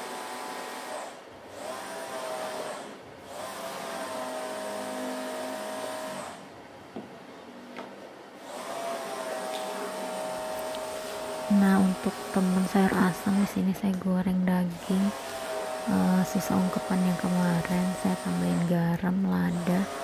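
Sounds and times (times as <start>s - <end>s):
electric motor whine: 0.0s - 6.5s, 8.4s - 13.4s, 14.7s - 18.7s, 19.3s - 20.0s.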